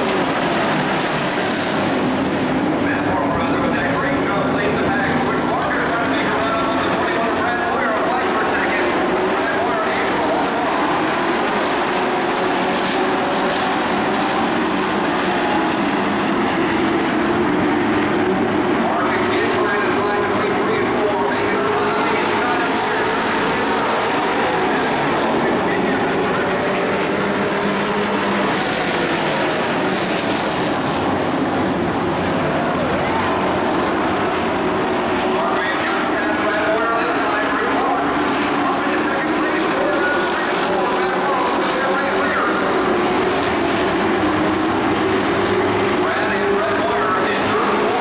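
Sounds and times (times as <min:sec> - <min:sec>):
race truck engines droning: 0:00.0 - 0:48.0.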